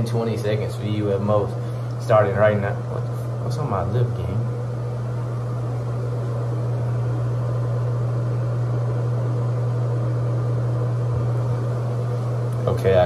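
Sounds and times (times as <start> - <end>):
ventilation fan running: 0.0 - 13.0.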